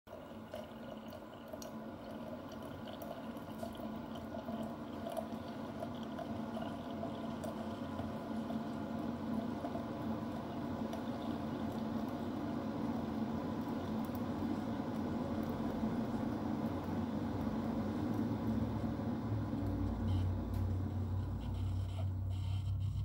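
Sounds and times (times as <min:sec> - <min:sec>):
coffee maker gurgling and bubbling: 0:00.1 - 0:23.0
low drone of coffee maker: 0:00.1 - 0:23.0.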